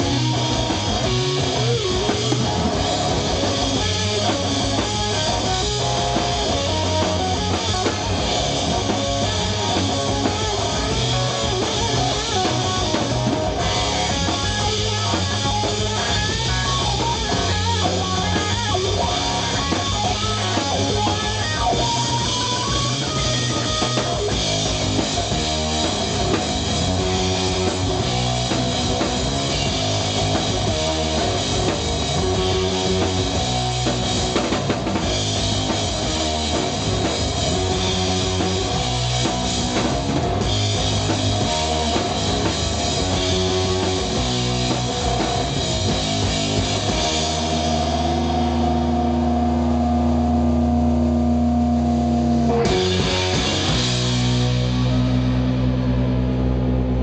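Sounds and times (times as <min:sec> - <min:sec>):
bass guitar: 0:00.0 - 0:57.0
distorted electric guitar: 0:00.0 - 0:57.0
drum kit: 0:00.0 - 0:57.0.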